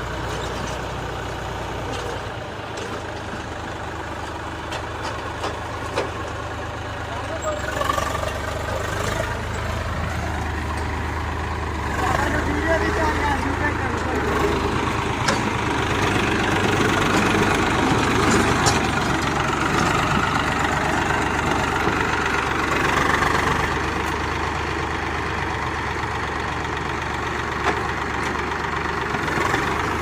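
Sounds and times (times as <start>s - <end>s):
diesel tractor engine running: 0.0s - 30.0s.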